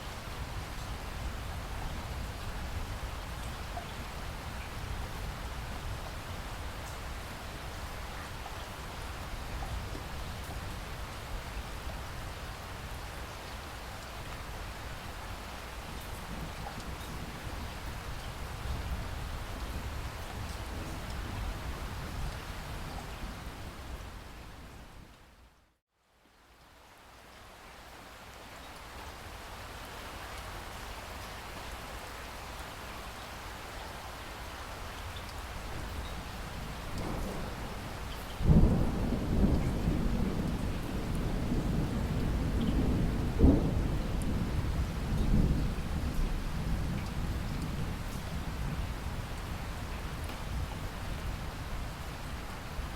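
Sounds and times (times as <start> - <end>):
raindrops pattering: 0.0 - 23.3, 26.3 - 52.9
steady rainfall hiss: 0.0 - 52.9.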